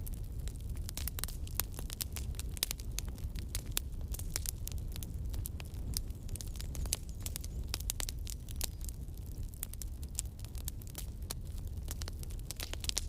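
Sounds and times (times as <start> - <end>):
campfire crackling: 0.0 - 13.0
sharp snaps and pops: 0.0 - 13.0.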